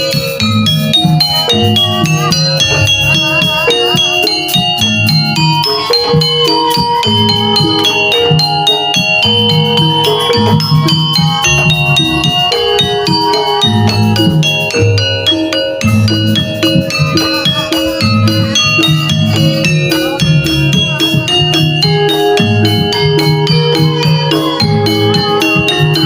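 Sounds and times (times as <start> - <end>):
gamelan metallophones playing: 0.0 - 26.0
repeating drum beat: 0.0 - 26.0.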